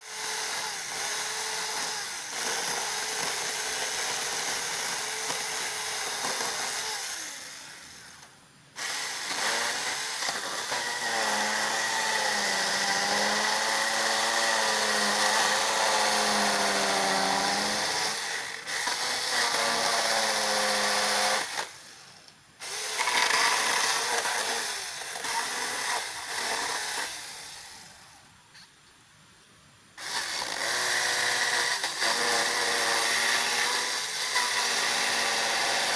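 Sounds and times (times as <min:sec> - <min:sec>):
cordless chainsaw cutting branches: 0:00.0 - 0:22.0, 0:22.6 - 0:28.2, 0:30.0 - 0:35.9.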